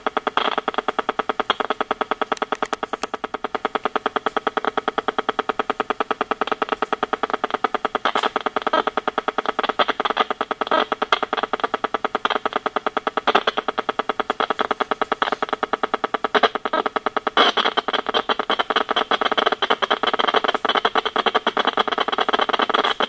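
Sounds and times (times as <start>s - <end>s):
meter speaker buzzing clicks: 0.0s - 23.0s.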